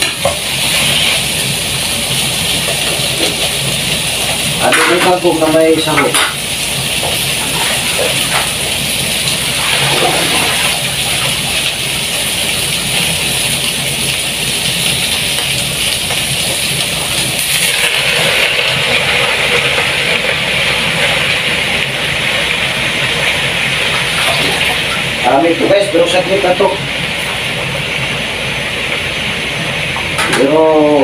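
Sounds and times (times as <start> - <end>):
tap water running into basin: 2.3 - 28.0.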